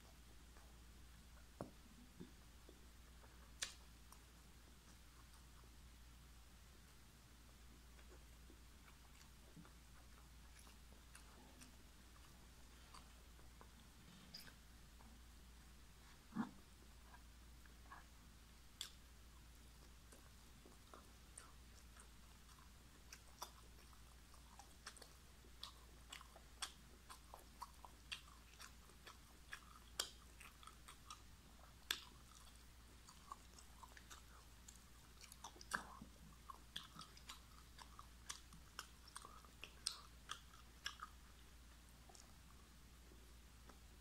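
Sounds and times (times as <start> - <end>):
faint low hum: 0.0 - 44.0
mouth chewing sounds: 0.0 - 44.0.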